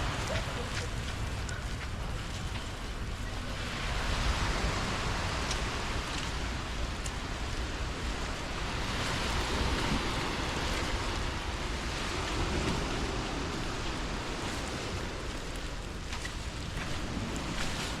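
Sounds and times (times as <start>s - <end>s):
surf washing: 0.0s - 18.0s.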